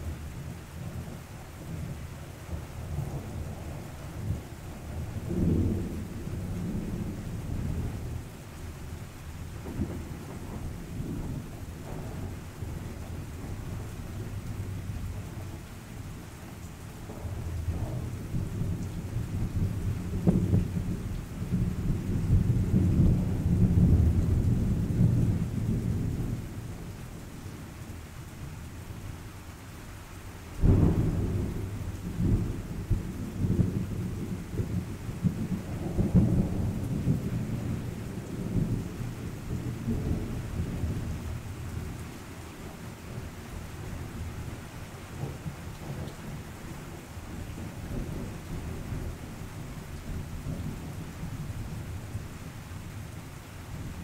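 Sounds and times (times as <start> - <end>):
steady rain falling: 0.0 - 54.0
thunder rumbling: 0.8 - 8.3, 9.4 - 27.9, 30.6 - 54.0.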